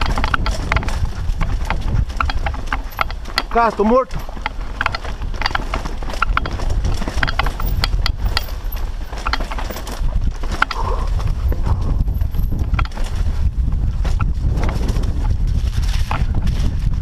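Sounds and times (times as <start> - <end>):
bike knocks and rattles: 0.0 - 17.0
steady low rumble: 0.0 - 17.0.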